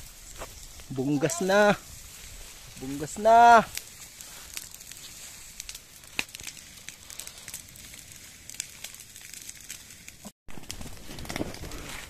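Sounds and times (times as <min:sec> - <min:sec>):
dry grass burning: 0:00.0 - 0:12.0.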